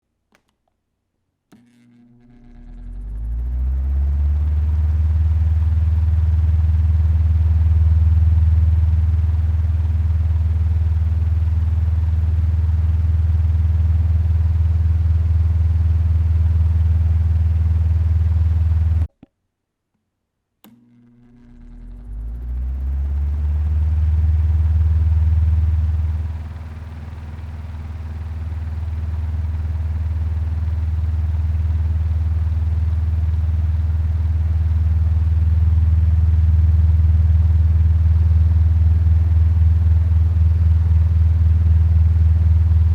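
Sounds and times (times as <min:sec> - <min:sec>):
electric fan humming: 0:01.6 - 0:19.1, 0:20.7 - 0:42.9.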